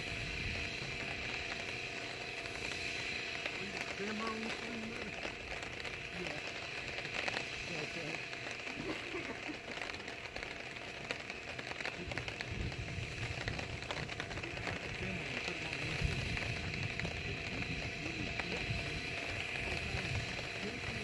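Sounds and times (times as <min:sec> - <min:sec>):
wind rumbling on microphone: 0:00.0 - 0:09.7, 0:10.3 - 0:21.0
high-pitched drone: 0:00.0 - 0:21.0.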